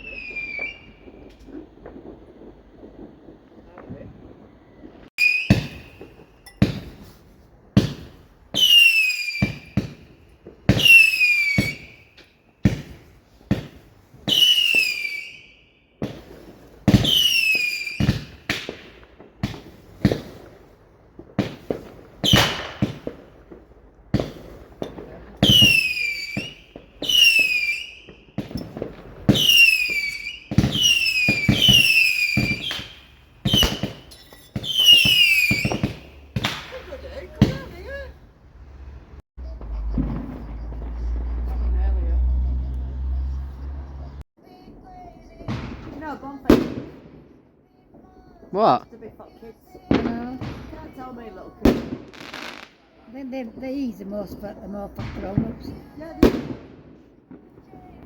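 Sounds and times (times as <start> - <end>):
fireworks banging: 0.0 - 58.0
whistling fireworks: 0.0 - 58.0.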